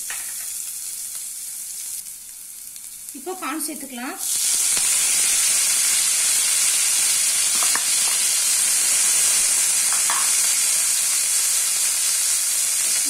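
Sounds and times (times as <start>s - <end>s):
corn sizzling in hot oil: 0.0s - 13.0s.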